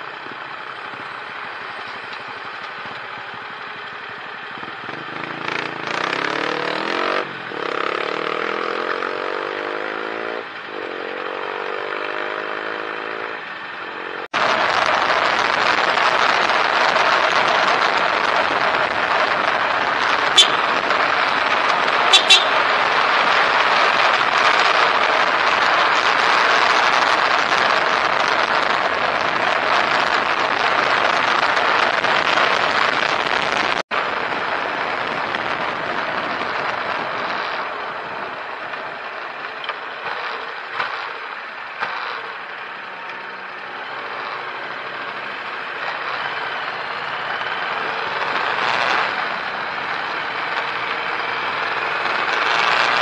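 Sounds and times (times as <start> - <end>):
road and engine noise in car: 0.0 - 53.0.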